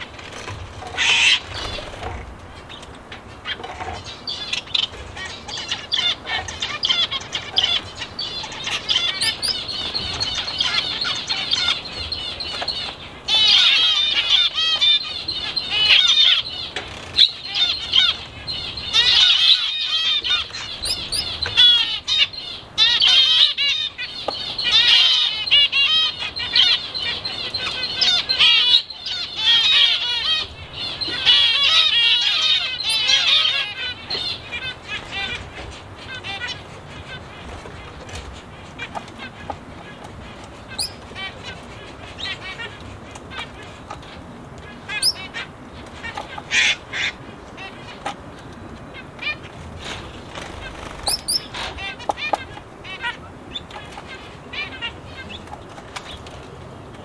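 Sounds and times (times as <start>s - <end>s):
small birds chirping and chattering: 0.0s - 57.0s.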